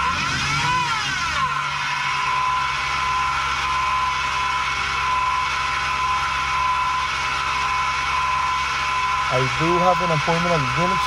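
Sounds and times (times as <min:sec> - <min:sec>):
engine running with whine: 0:00.0 - 0:11.0.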